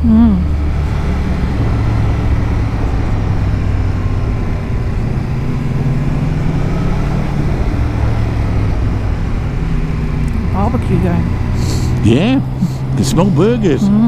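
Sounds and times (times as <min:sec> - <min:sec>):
motorcycle engine pulling steadily: 0:00.0 - 0:14.0.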